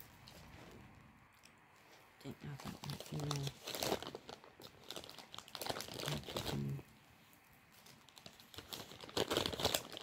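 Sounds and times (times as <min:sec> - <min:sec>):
rustling and crinkling: 0:00.0 - 0:10.0.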